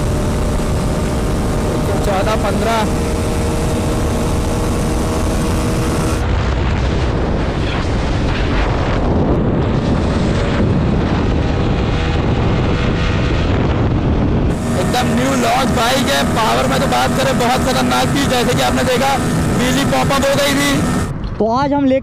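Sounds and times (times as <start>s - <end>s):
motorcycle engine at high speed: 0.0s - 21.4s
wind noise on microphone: 0.0s - 22.0s.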